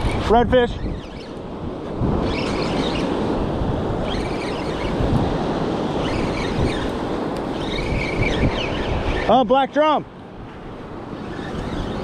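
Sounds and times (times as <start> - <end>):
wind buffeting microphone: 0.0 - 12.0
surf washing up beach: 1.4 - 12.0.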